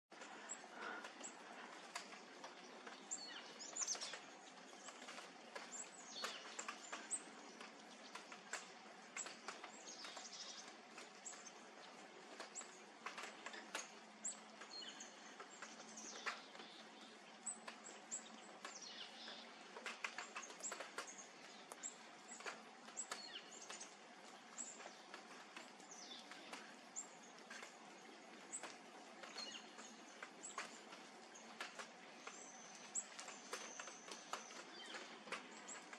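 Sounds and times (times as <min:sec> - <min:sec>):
faint steady hum: 0:00.1 - 0:35.9.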